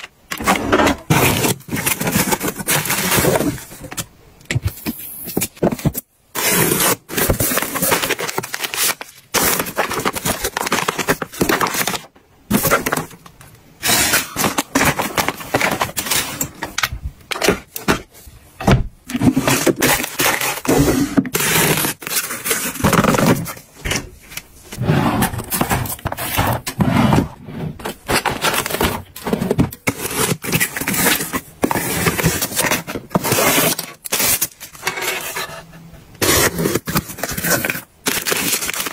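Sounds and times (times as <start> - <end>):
cardboard and plastic crinkling: 0.0 - 35.6, 36.2 - 38.9.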